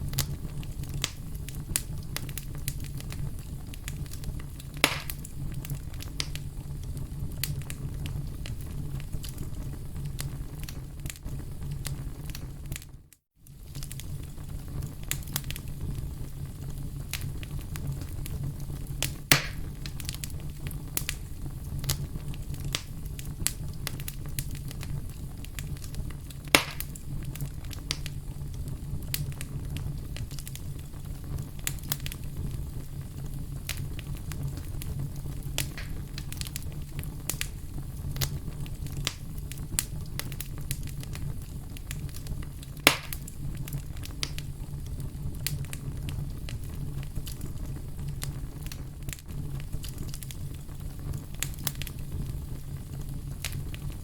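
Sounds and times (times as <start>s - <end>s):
loud fire pops: 0.0s - 12.9s, 13.5s - 54.0s
wood fire rumbling and crackling: 0.0s - 54.0s.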